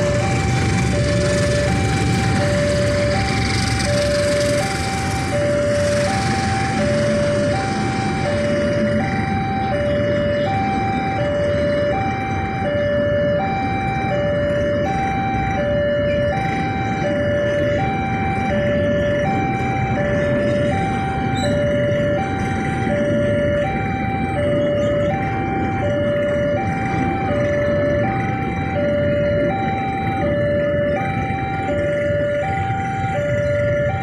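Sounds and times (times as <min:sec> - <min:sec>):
motorcycles idling: 0:00.0 - 0:34.0
passenger train passing: 0:00.0 - 0:34.0
two-tone crossing alarm chime: 0:00.0 - 0:34.0.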